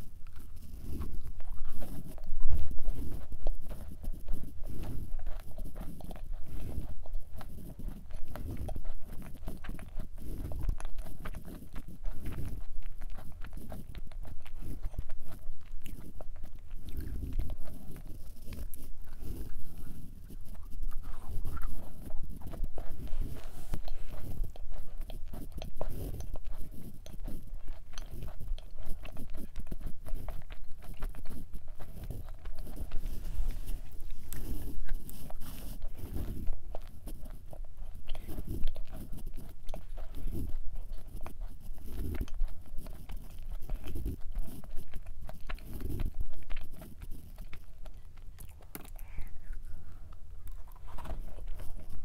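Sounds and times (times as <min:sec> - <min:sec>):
chewing cookie: 0:00.0 - 0:52.0
wet mouth clicks: 0:00.3 - 0:52.0.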